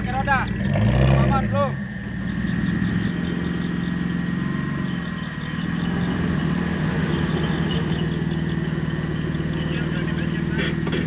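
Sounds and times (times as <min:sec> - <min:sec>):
off-road vehicle engine at low revs: 0:00.0 - 0:11.0.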